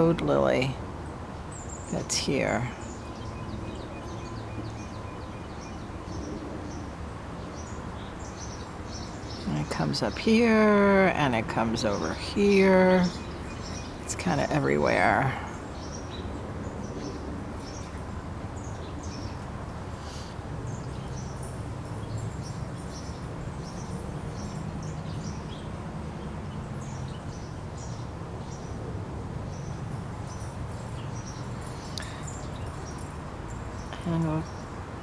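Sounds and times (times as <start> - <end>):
small birds chirping: 0.0 - 28.8, 29.5 - 35.0.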